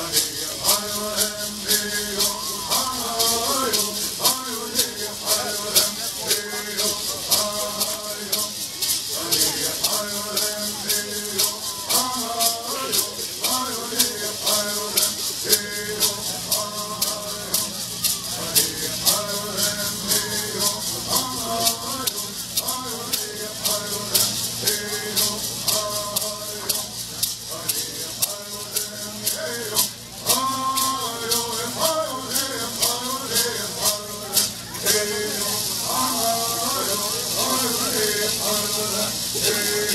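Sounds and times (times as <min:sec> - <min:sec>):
gourd rattles shaking: 0:00.0 - 0:39.9
young men singing in unison: 0:00.0 - 0:39.9.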